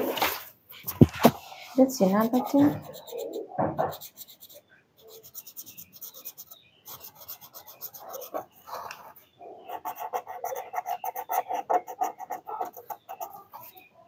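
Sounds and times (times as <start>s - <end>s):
marker scribbling on paper: 1.0s - 13.9s.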